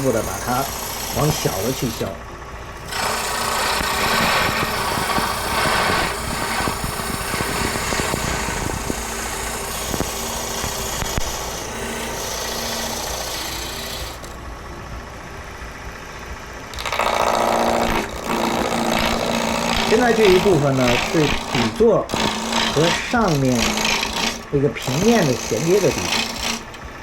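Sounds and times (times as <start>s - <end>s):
gouge scraping spinning wood: 0.0s - 14.5s, 16.2s - 27.0s
faint motor hum: 0.0s - 27.0s.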